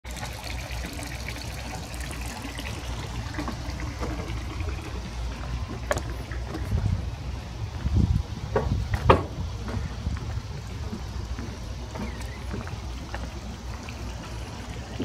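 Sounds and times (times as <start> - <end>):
water lapping against boat hull: 0.1 - 15.0
low rumble: 2.4 - 15.0.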